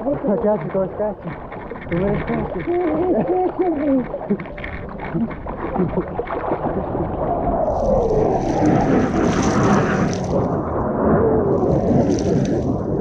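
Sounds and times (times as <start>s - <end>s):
water splashing from swimming: 0.0s - 13.0s.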